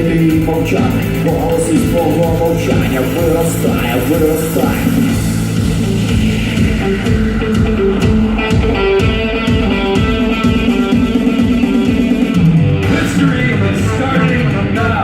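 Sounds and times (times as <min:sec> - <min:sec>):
electric guitar: 0:00.0 - 0:15.0
instrumental band music: 0:00.0 - 0:15.0.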